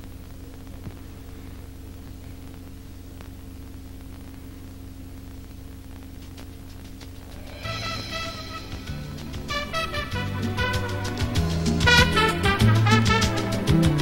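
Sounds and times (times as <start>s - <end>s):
faint hiss: 0.0s - 14.0s
low electrical hum: 0.0s - 14.0s.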